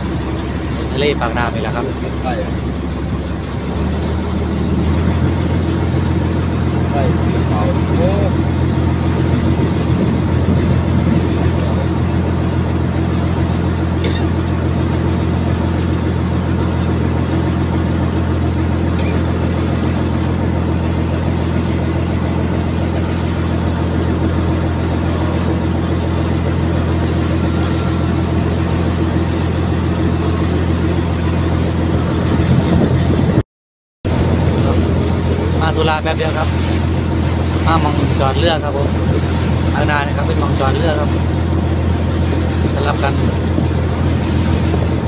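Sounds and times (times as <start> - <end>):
small boat engine droning: 0.0 - 33.4, 34.0 - 45.0.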